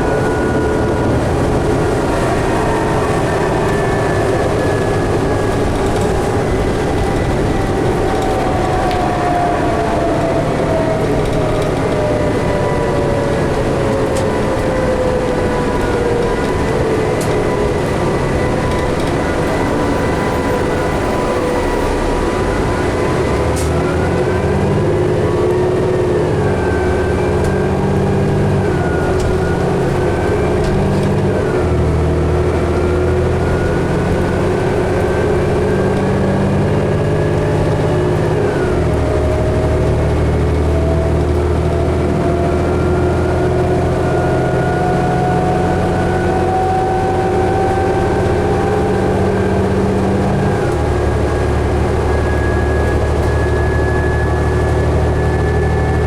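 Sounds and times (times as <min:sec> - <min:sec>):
bus engine rumble: 0:00.0 - 0:56.0
drivetrain whine: 0:00.0 - 0:56.0.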